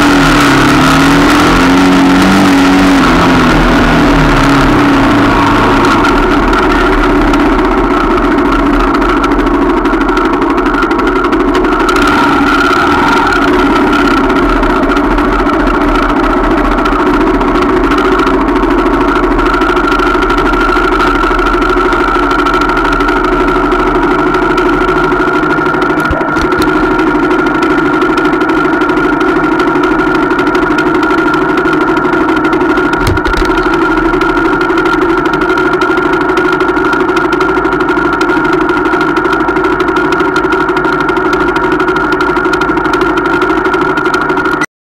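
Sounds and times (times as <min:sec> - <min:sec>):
motorcycle engine idling: 0:02.8 - 0:44.6.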